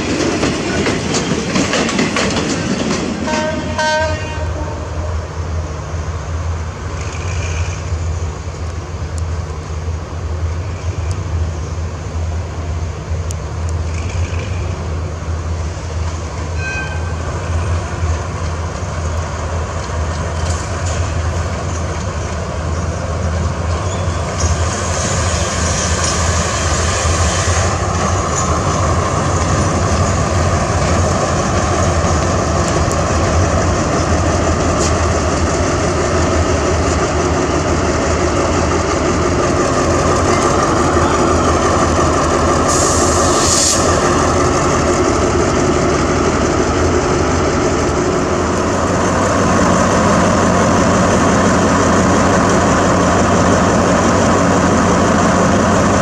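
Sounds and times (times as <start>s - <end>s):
locomotive engine humming: 0.0s - 56.0s
wagons rumbling on rails: 0.0s - 56.0s.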